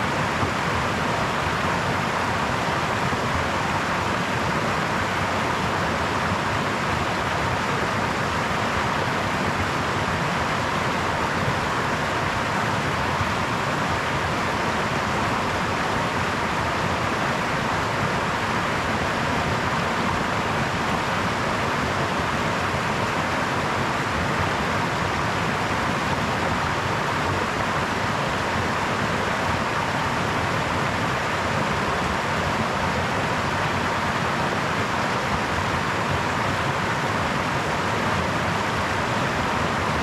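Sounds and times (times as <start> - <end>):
brook flowing: 0.0 - 40.0.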